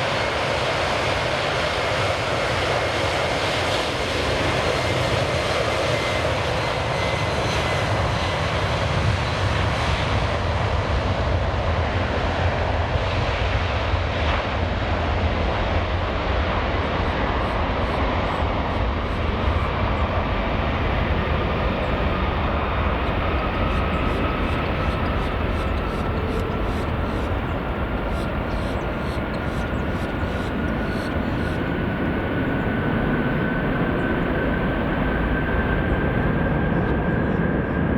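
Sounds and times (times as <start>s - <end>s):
jet airliner engines rumbling: 0.0s - 37.9s.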